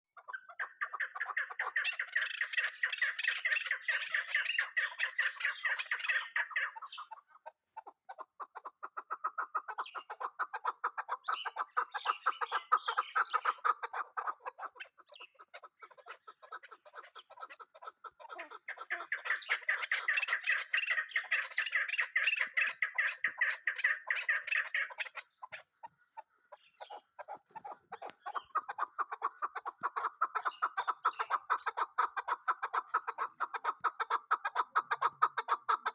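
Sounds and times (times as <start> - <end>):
partridge calling: 0.2 - 35.9.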